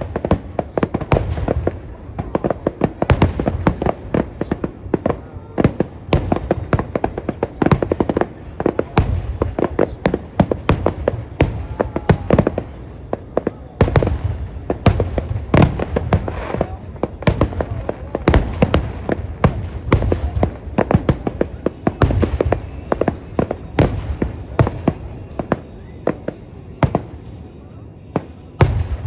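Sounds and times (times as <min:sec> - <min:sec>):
deep fireworks booms: 0:00.0 - 0:27.5, 0:28.1 - 0:29.0
fireworks cracks and bangs: 0:00.0 - 0:29.0.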